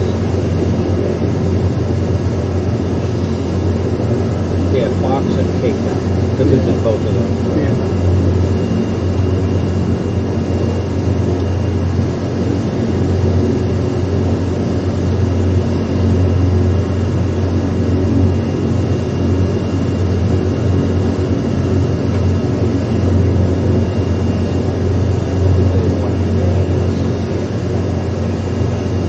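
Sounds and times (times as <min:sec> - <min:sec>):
loud engine drone: 0:00.0 - 0:29.0.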